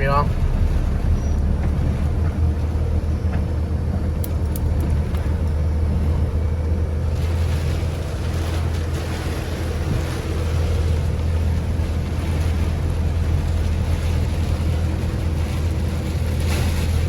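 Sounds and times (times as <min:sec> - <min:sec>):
vehicle engine rumbling: 0:00.0 - 0:17.0
wind noise on microphone: 0:00.0 - 0:17.0.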